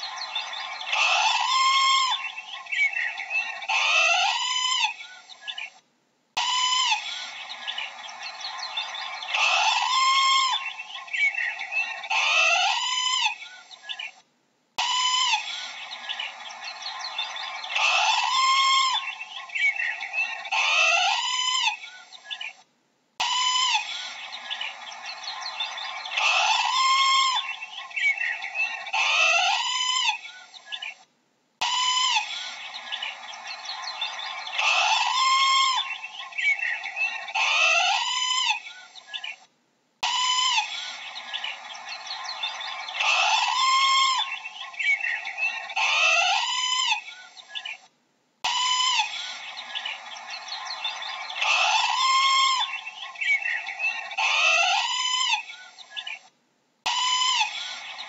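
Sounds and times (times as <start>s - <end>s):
parrot squawks: 0.0s - 5.7s, 6.4s - 14.2s, 14.8s - 22.6s, 23.2s - 31.0s, 31.6s - 39.4s, 40.0s - 47.8s, 48.4s - 56.2s, 56.9s - 58.0s.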